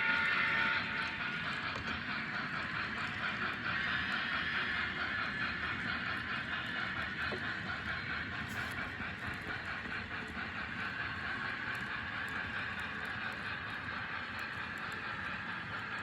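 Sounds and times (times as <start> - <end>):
model train motor whirring: 0.0 - 16.0
model train wheels rolling: 0.0 - 16.0.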